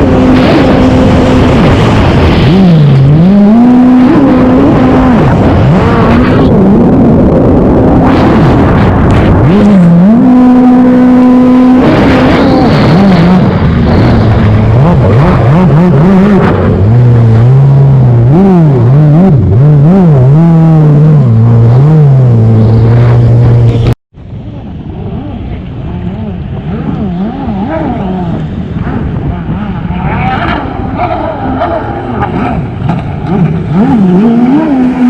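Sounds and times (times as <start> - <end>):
engine revving: 0.0 - 24.0, 24.9 - 35.0.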